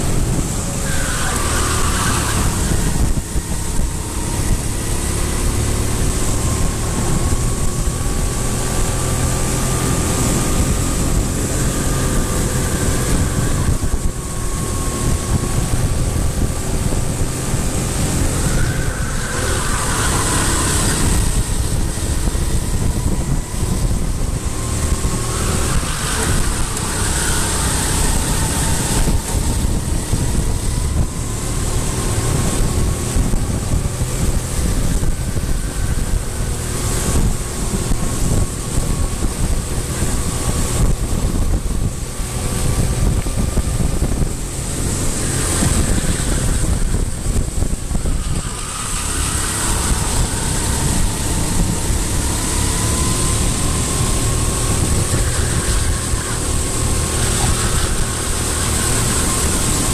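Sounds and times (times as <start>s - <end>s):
vehicle engine running: 0.0s - 59.9s
wind noise on microphone: 0.0s - 59.9s.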